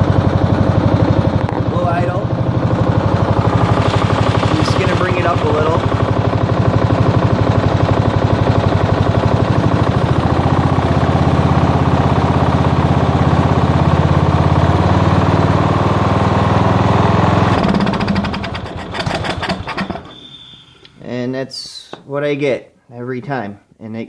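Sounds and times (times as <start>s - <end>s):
tractor engine running: 0.0s - 20.2s.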